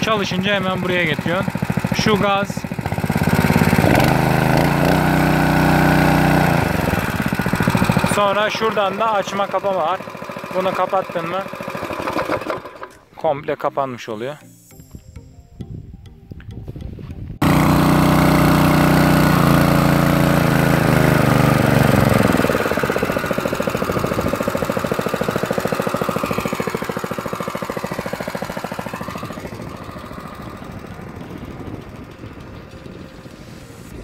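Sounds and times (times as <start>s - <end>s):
small petrol engine running: 0.0s - 13.1s, 17.4s - 34.0s.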